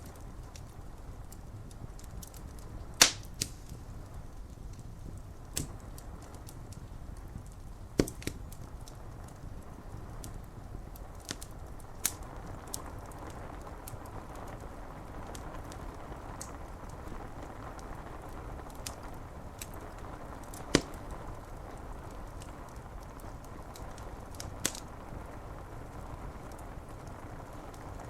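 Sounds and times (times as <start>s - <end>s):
rain on window glass: 0.0s - 28.0s
wood fire crackling and popping: 0.0s - 28.0s.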